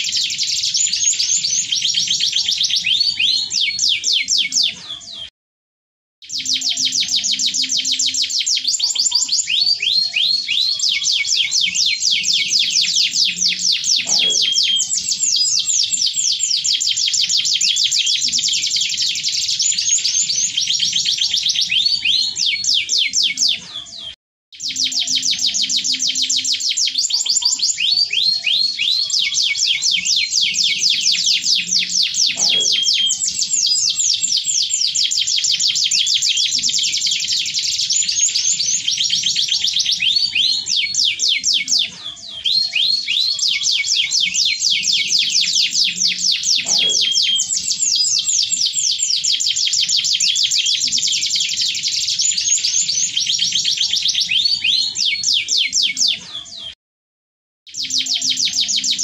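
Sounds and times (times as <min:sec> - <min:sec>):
canary singing trills: 0:00.0 - 0:05.3, 0:06.2 - 0:56.8, 0:57.7 - 0:59.0.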